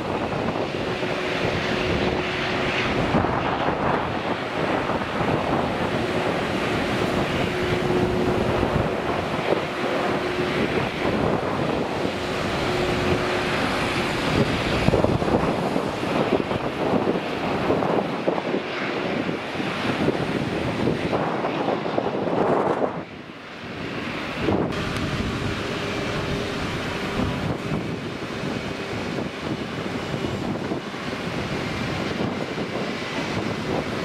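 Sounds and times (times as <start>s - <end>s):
jet engine roar: 0.0s - 34.0s
wind buffeting microphone: 0.0s - 34.0s.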